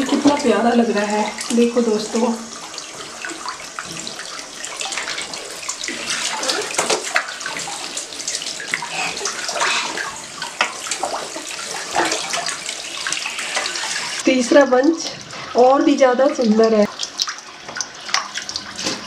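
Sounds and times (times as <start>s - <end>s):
tap water running into balloons: 0.0s - 19.0s
water splashing and dripping: 0.0s - 19.0s.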